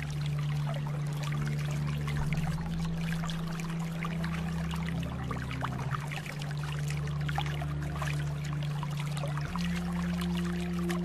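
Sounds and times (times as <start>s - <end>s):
low music drone: 0.0s - 11.0s.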